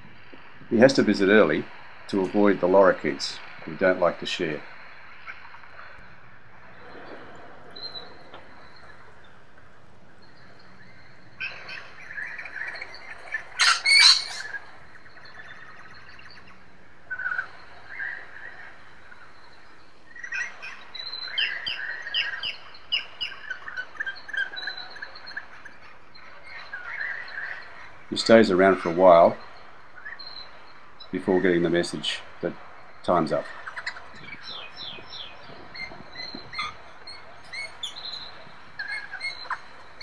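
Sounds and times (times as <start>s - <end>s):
wild birds chirping: 0.0s - 40.0s
loud harsh bird call: 0.2s - 40.0s.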